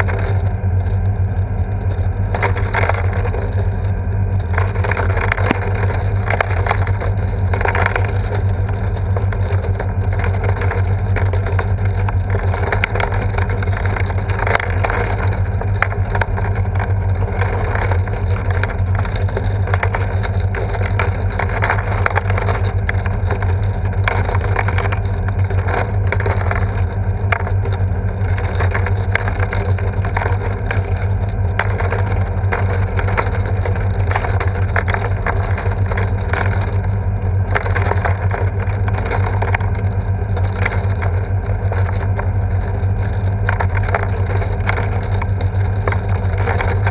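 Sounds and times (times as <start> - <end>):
balls rattling in bowl: 0.0 - 46.9
machinery deep hum: 0.0 - 46.9.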